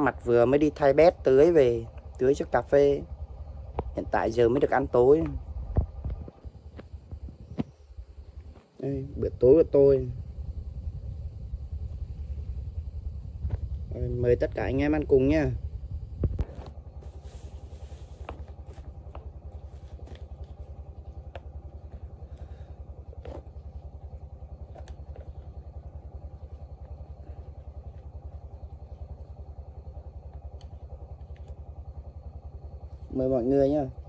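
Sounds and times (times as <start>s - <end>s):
pump engine running: 0.0s - 34.0s.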